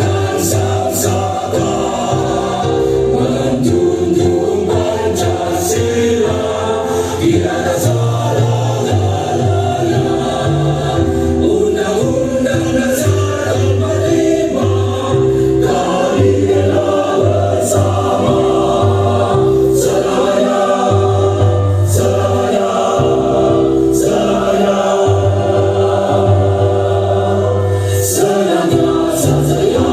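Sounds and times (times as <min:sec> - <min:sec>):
heavy bass accompaniment: 0:00.0 - 0:27.7
choir singing: 0:00.0 - 0:29.9.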